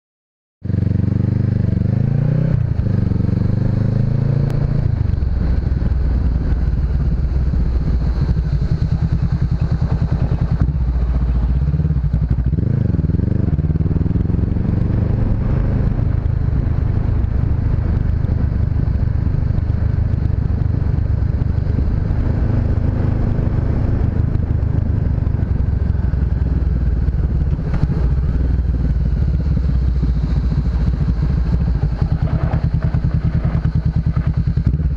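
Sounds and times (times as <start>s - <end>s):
motorcycle engine accelerating: 0.6s - 34.9s.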